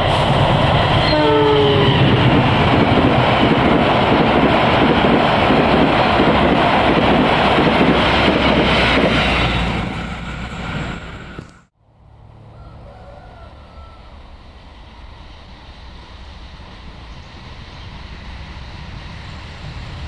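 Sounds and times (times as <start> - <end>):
distant diesel locomotive rumble: 0.0 - 20.0
passenger train rushing past: 0.0 - 20.0.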